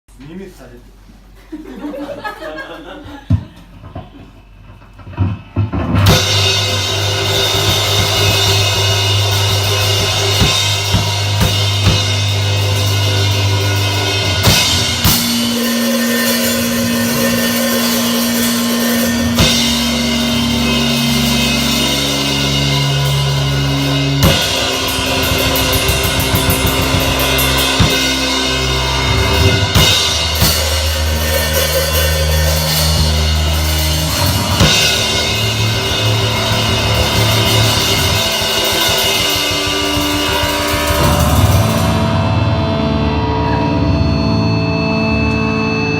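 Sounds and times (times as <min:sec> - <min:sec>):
drum kit beat: 0:05.7 - 0:45.7
sustained low notes: 0:06.0 - 0:45.9.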